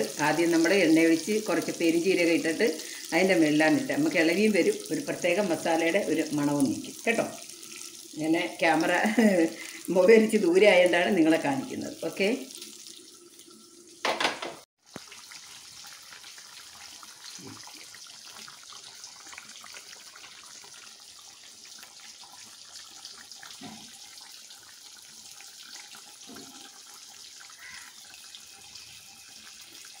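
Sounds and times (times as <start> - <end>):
tap water running into sink: 0.0 - 30.0.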